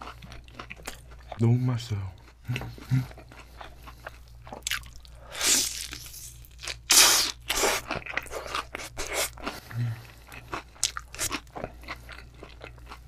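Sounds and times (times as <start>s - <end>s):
wet chewing: 0.0s - 1.4s, 2.2s - 13.0s.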